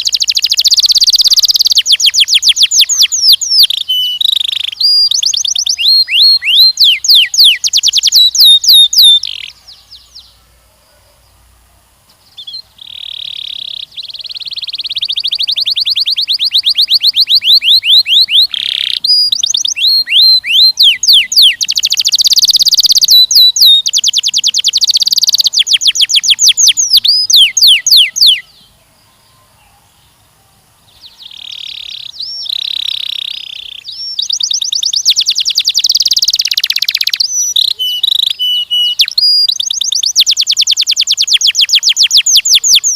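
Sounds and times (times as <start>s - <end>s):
canary singing trills: 0.0s - 11.5s, 12.2s - 42.9s.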